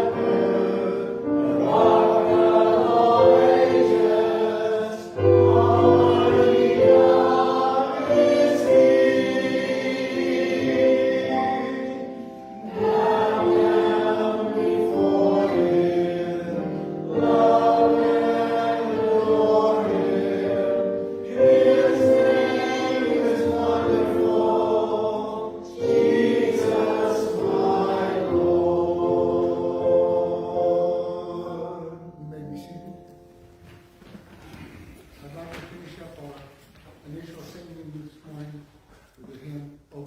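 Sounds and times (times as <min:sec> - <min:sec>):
voices singing a hymn: 0:00.0 - 0:36.5.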